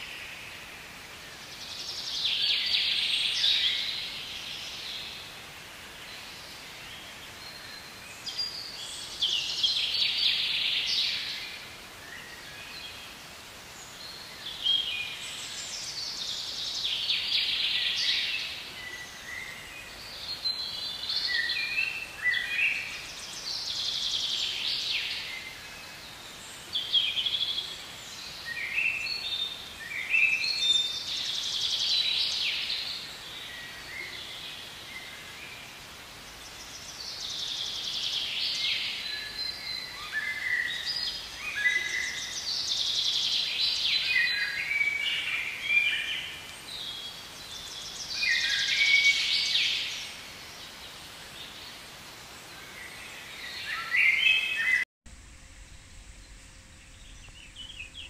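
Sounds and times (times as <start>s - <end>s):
faint hiss: 0.0s - 58.0s
songbirds chirping and trilling: 0.0s - 58.0s.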